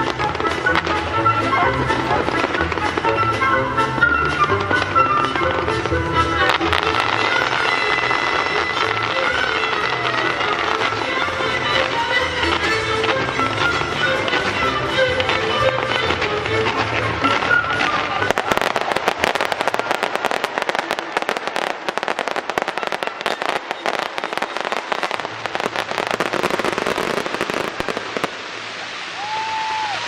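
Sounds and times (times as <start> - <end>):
music: 0.0 - 28.3
fireworks crackling and popping: 0.0 - 30.0.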